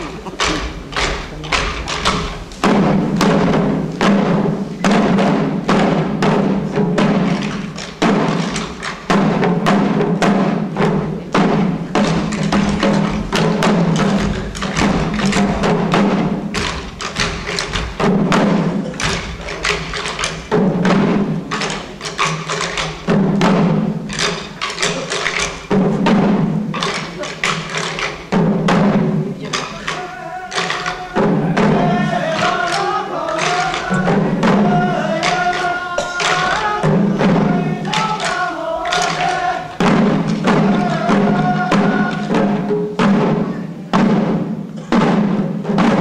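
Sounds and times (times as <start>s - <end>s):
drums beating in quick rhythm: 0.0s - 46.0s.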